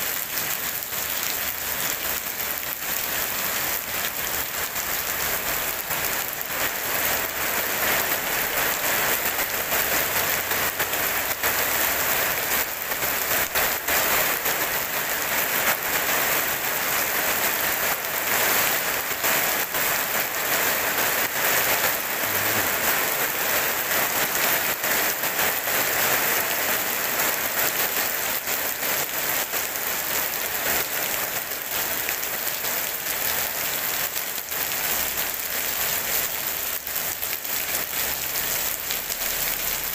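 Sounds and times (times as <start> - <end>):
rain on wet paving: 0.0 - 39.9.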